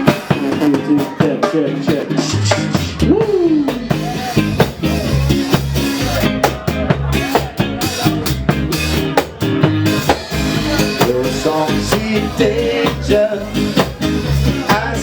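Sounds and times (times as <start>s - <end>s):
drum kit beat: 0.0s - 15.0s
live ska band playing: 0.0s - 15.0s.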